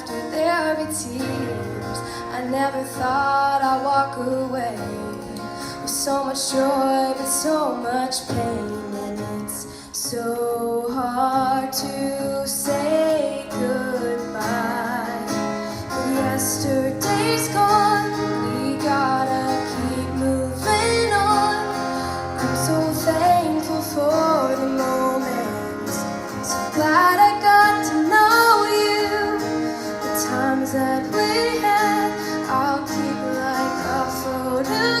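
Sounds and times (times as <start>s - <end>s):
woman singing with instruments: 0.0s - 35.0s.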